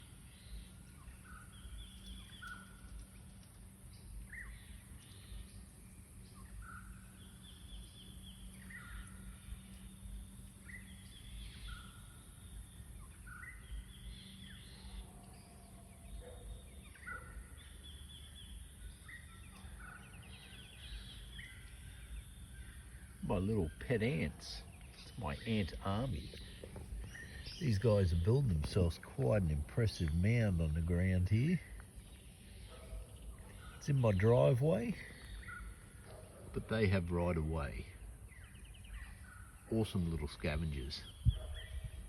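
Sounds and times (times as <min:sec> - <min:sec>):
birds singing: 0:00.0 - 0:42.0
faint low hum: 0:00.0 - 0:42.0.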